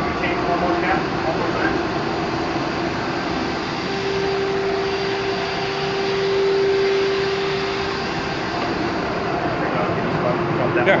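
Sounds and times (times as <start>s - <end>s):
air supply whirring: 0.0s - 11.0s
hum-like tone: 0.0s - 11.0s.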